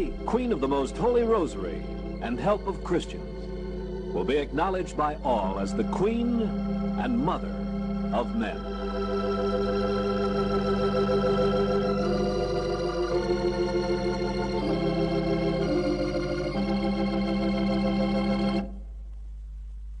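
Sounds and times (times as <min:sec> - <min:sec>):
organ playing slow chords: 0:00.0 - 0:18.9
low steady hum: 0:00.0 - 0:20.0.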